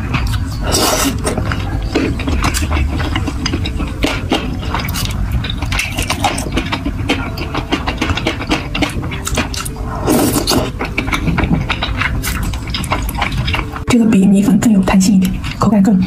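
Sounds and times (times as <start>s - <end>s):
chewing and wet mouth sounds: 0.0s - 16.0s.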